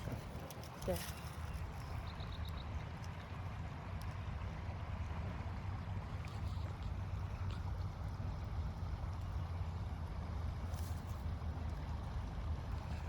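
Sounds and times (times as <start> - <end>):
low rumble background noise: 0.0 - 13.0.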